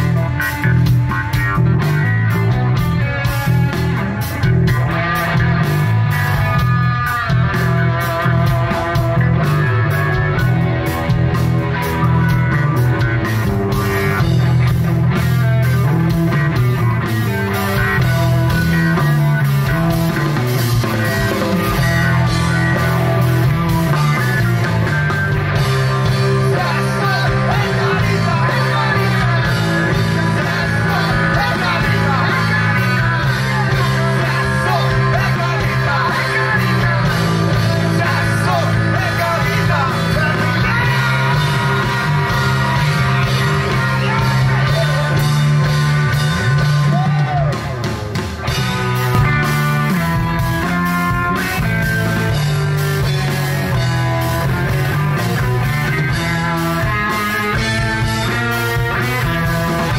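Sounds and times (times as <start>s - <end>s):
bass guitar: 0.0s - 59.9s
drum kit: 0.0s - 59.9s
electric guitar: 0.0s - 59.9s
wavering lead guitar line: 0.0s - 59.9s.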